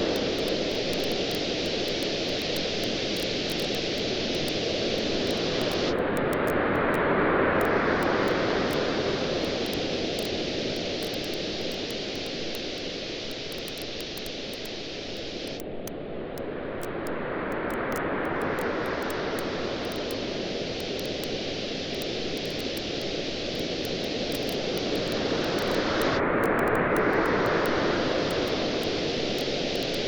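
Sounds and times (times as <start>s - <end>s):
campfire crackling: 0.0s - 6.5s, 8.0s - 15.8s, 17.7s - 30.0s
waves washing on a beach: 0.0s - 15.4s, 16.5s - 30.0s.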